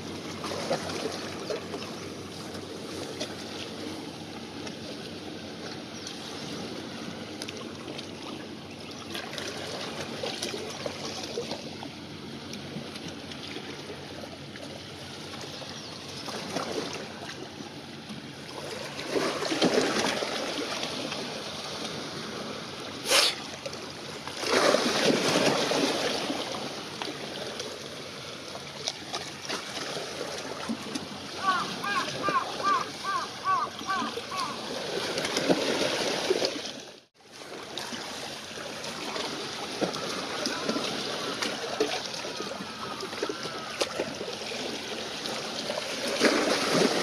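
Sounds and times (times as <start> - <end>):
small waves lapping: 0.0 - 47.0.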